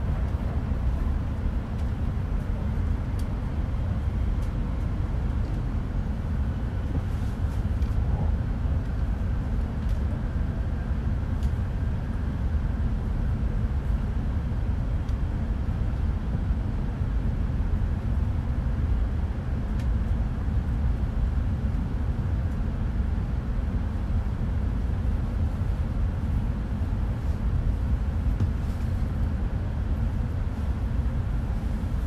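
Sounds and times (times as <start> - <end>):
low train rumble from cabin: 0.0 - 32.0.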